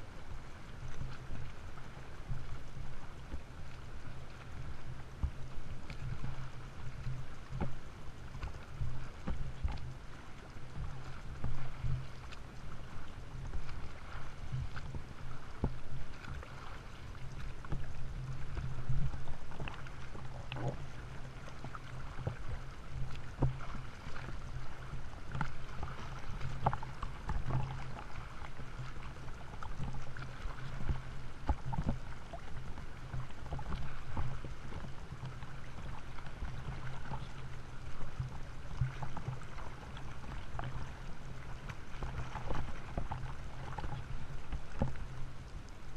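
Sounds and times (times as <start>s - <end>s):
sea water sloshing and splashing: 0.0s - 45.9s.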